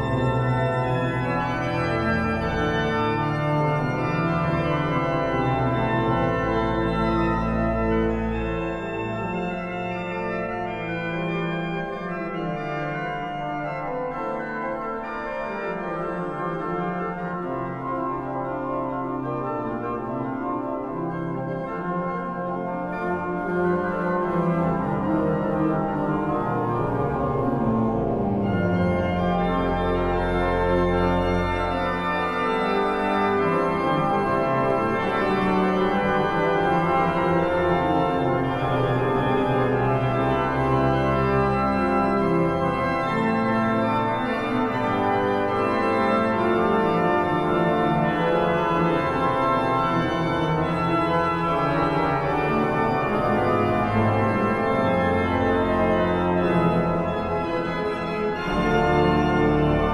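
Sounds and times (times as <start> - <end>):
deep organ pedal bass notes: 0.0 - 59.9
pipe organ chords: 0.0 - 59.9.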